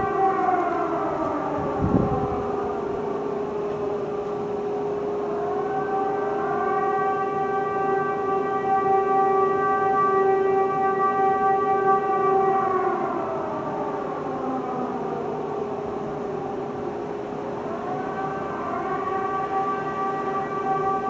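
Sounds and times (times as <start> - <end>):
warning siren wailing: 0.0 - 21.0.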